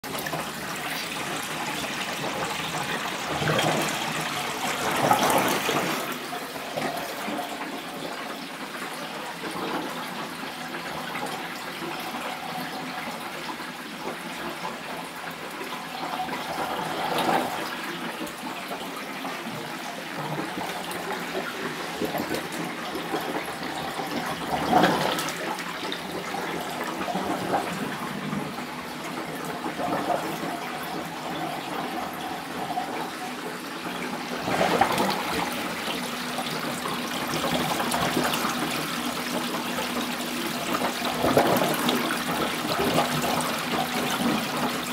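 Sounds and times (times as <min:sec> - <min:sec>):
water gurgling down overflow pipes: 0:00.0 - 0:44.9.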